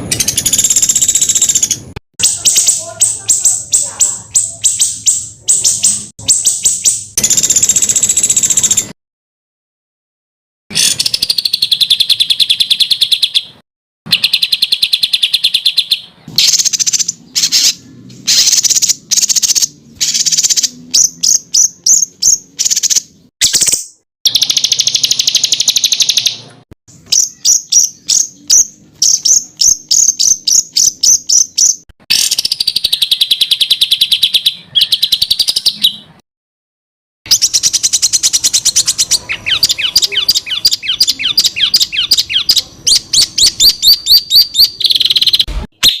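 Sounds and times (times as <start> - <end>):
songbirds trilling: 0.0 - 8.9, 10.7 - 36.2, 37.3 - 45.5.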